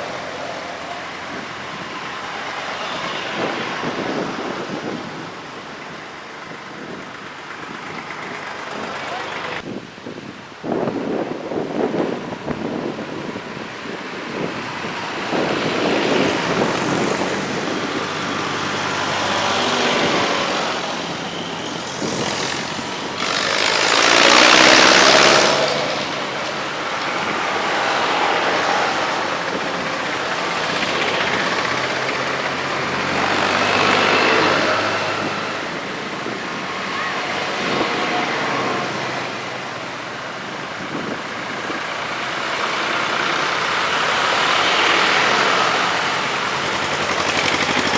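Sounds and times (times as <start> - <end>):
tractor engines driving past: 0.0 - 47.9.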